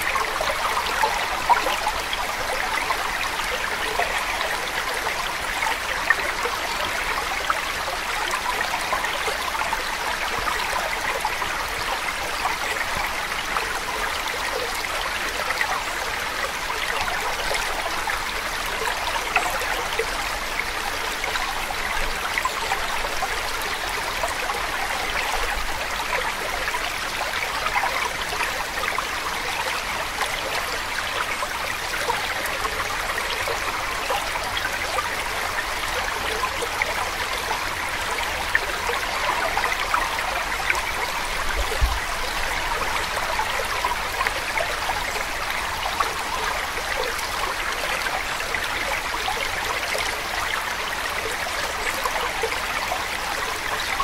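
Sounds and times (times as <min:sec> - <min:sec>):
stream water trickling: 0:00.0 - 0:54.0.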